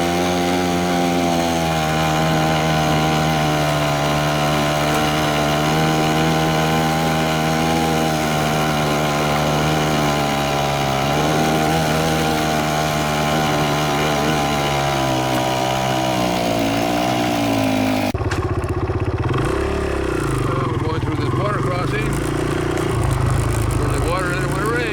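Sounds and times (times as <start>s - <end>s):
dirt bike engine running: 0.0s - 24.9s.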